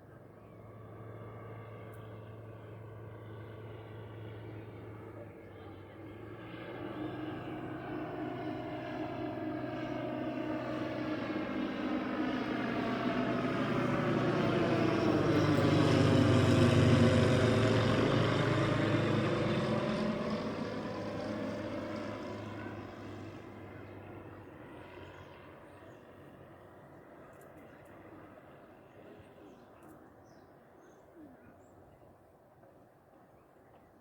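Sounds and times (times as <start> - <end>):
propeller plane flying overhead: 0.0 - 34.0.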